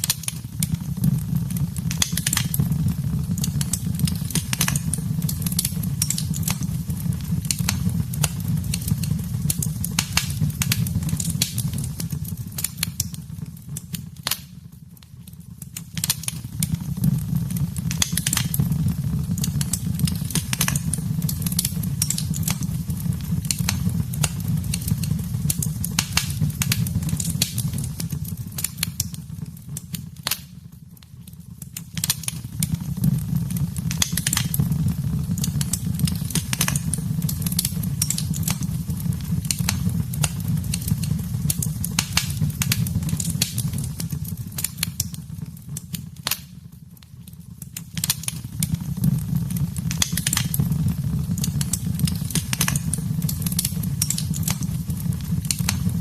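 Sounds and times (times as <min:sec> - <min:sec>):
low rumble of flame: 0:00.0 - 0:56.0
wood fire pops and snaps: 0:00.0 - 0:56.0.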